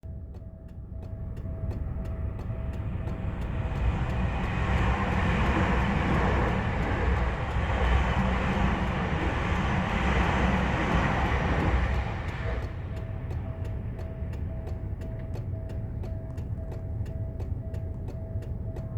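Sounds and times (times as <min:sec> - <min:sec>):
level-crossing warning bell: 0:00.0 - 0:18.9
train rumble: 0:00.0 - 0:18.9.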